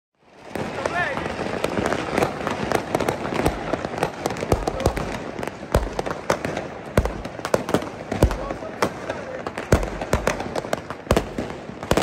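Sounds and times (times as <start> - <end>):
deep fireworks booms: 0.2 - 12.0
firecracker pops crackling: 0.3 - 12.0.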